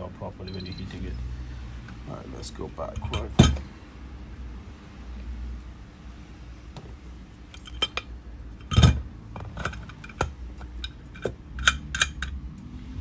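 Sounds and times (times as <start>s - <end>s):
faint low hum: 0.0s - 12.3s.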